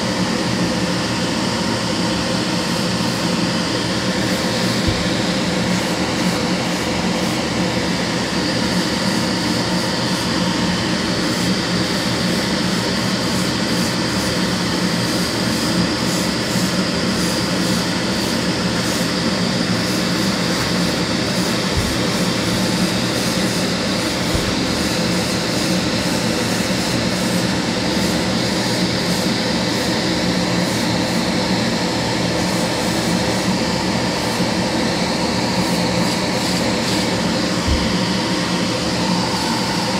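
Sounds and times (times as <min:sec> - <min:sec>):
airbrush air hissing: 0:00.0 - 0:39.9
extractor fan whirring: 0:00.0 - 0:39.9.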